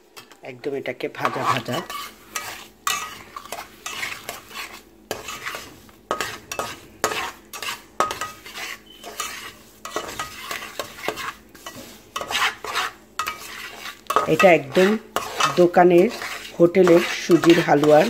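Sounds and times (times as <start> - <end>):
light sizzle: 0.0 - 18.0
spoon scraping a pan: 1.2 - 18.0.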